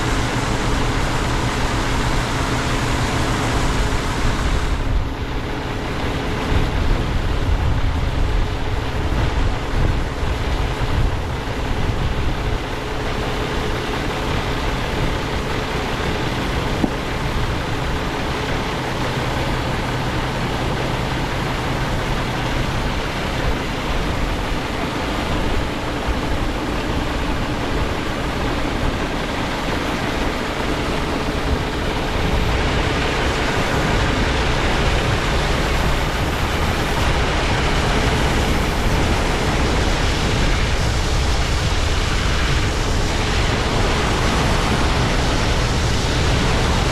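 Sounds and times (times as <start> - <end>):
heavy farm machinery running: 0.0 - 46.9.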